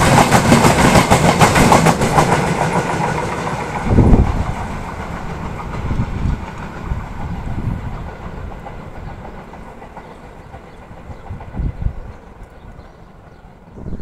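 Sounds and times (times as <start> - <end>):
freight train wagons rolling: 0.0 - 14.0.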